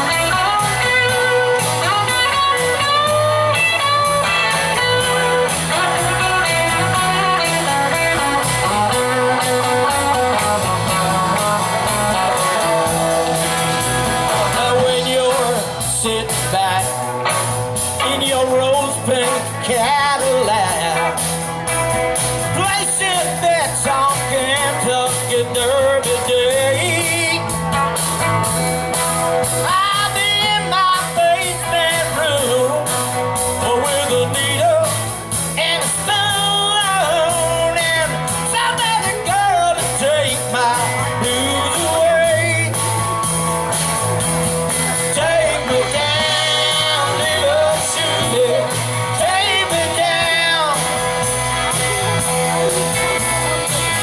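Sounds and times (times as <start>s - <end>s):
person singing: 0.0s - 21.2s, 22.4s - 27.6s, 29.5s - 42.9s, 44.7s - 54.0s
live country-rock band: 0.0s - 54.0s.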